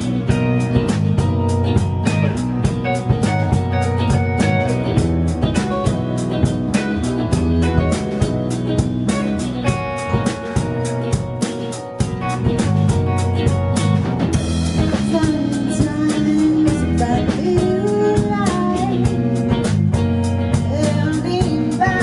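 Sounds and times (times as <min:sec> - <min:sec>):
drum kit beat: 0:00.0 - 0:22.0
electric guitars: 0:00.0 - 0:22.0.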